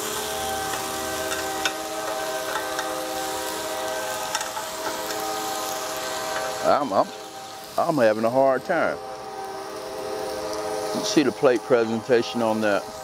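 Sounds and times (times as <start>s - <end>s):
food sizzling in a grill pan: 0.0s - 13.0s
train horn blast: 0.0s - 13.0s.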